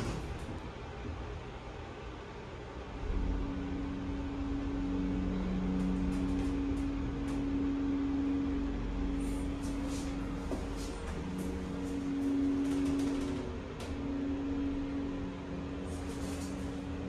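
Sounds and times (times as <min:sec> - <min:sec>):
elevator machinery humming: 0:00.0 - 0:17.0.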